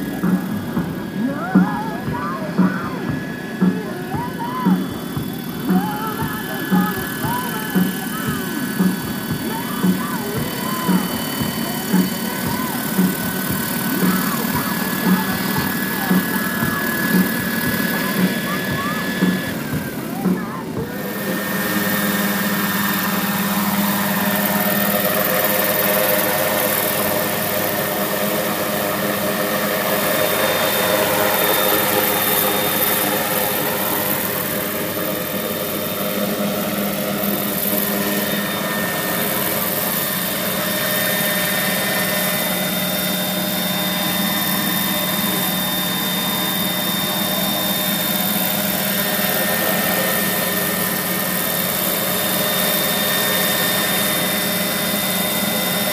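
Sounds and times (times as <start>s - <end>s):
model helicopter engine whine: 0.0s - 55.9s.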